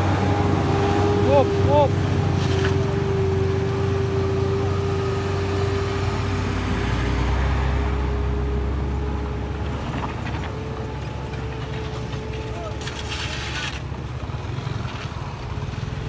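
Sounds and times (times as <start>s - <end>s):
truck engines droning: 0.0s - 16.0s.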